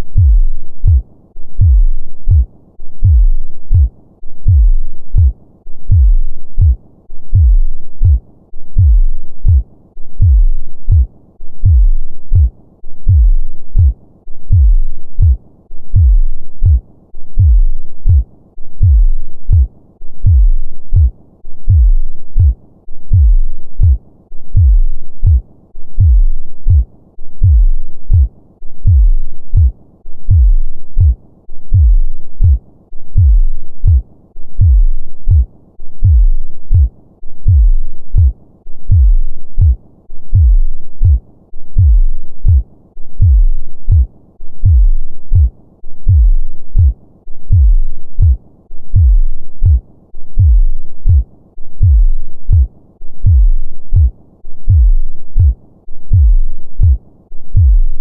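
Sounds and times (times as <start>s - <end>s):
human heartbeat: 0.1s - 1.0s, 1.6s - 34.0s, 34.6s - 58.0s.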